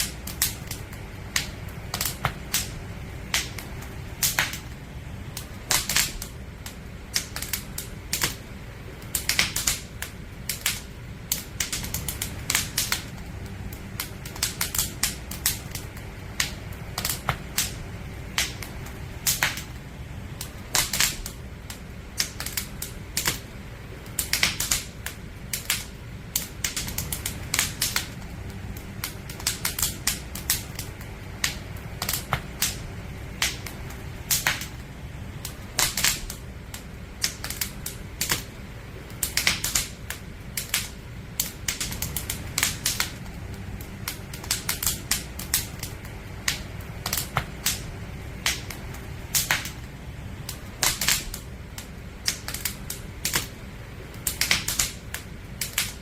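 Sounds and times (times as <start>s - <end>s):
campfire crackling: 0.0s - 56.0s
low steady rumble: 0.0s - 56.0s.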